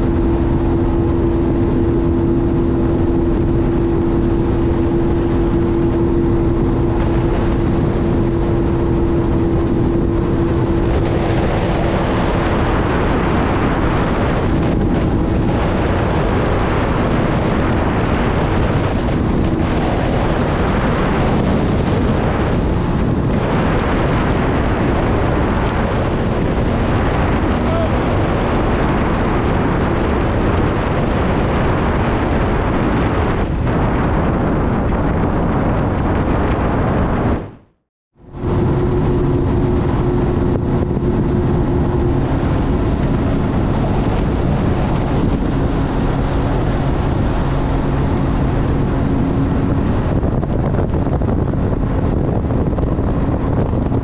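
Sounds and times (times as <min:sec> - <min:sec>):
rushing water: 0:00.0 - 0:54.0
watercraft engine drone: 0:00.0 - 0:54.0
wind on microphone: 0:00.0 - 0:54.0.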